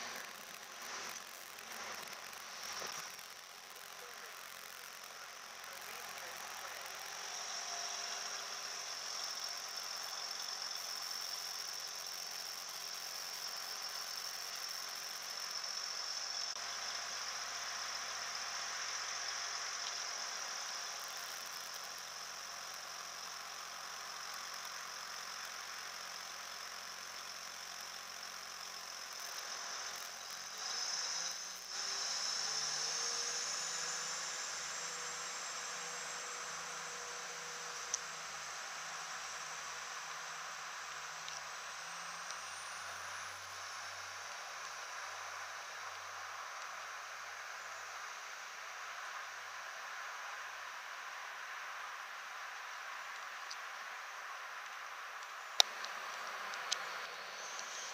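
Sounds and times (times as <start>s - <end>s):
rising whine: 0.0s - 52.2s
high-pitched whine: 0.0s - 57.9s.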